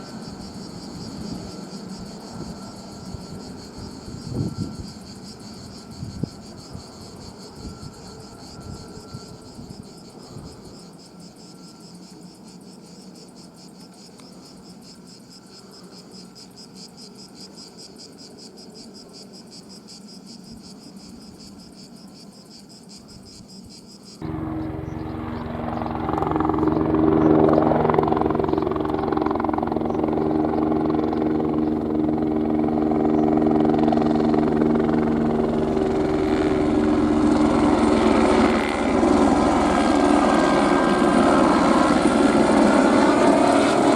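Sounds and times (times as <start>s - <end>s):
helicopter turbine and rotors: 0.0s - 22.1s, 23.2s - 43.9s
crickets chirping: 0.0s - 43.9s.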